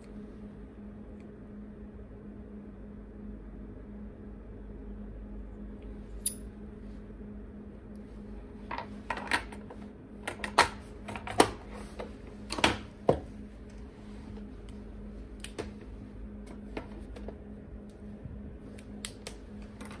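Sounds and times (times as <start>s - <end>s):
low hum of lab equipment: 0.0s - 20.0s.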